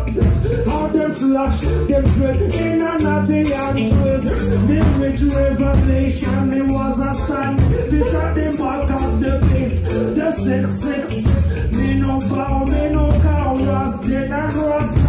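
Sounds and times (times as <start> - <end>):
heavy bass line: 0.0 - 15.0
reggae band playing: 0.0 - 15.0
steady drum beat: 0.0 - 15.0.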